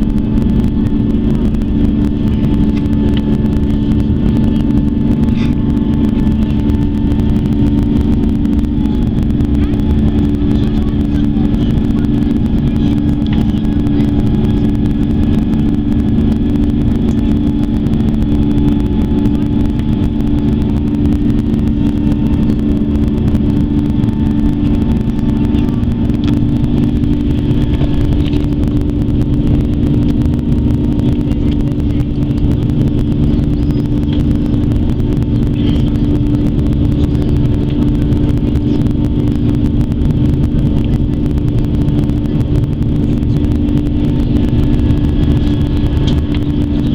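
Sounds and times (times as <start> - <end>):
airplane cabin engine drone: 0.0 - 46.9.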